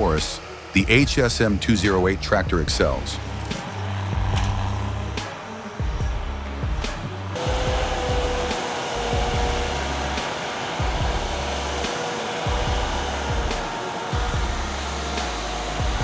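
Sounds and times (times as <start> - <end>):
music with pulsing bass beat: 0.0 - 16.0
tractor engine hissing: 0.0 - 16.0.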